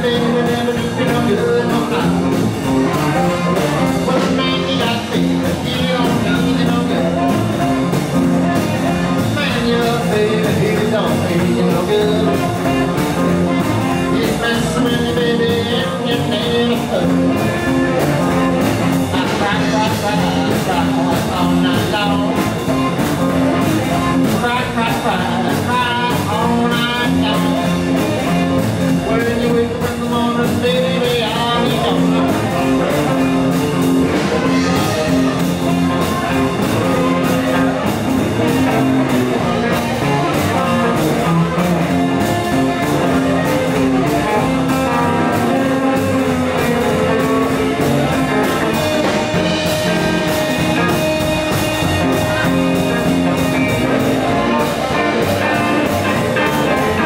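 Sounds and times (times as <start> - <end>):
blues rock band playing: 0.0 - 57.0
man singing: 0.0 - 57.0.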